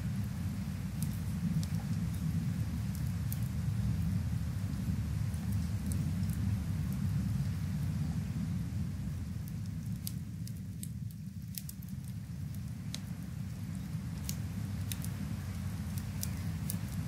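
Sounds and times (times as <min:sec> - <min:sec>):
rain rumble: 0:00.0 - 0:17.0
wood fire crackling and popping: 0:00.0 - 0:17.0.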